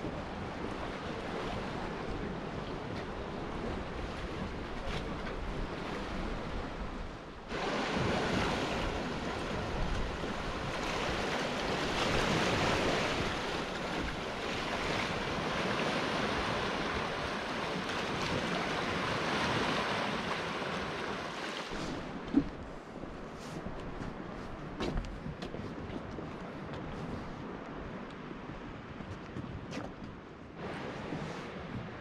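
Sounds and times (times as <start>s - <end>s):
waves washing: 0.0s - 32.0s
wind buffeting microphone: 0.0s - 32.0s.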